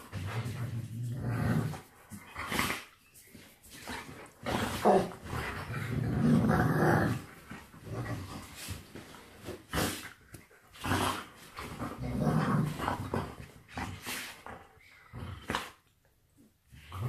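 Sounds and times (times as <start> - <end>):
dogs growling while play-fighting: 0.0 - 2.9, 3.8 - 16.0, 16.7 - 17.0.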